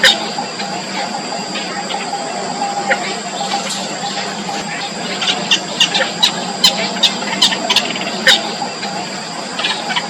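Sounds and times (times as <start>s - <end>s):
baby birds chirping: 0.0s - 10.0s
steady low hum: 0.0s - 10.0s
thin high whine: 0.0s - 10.0s.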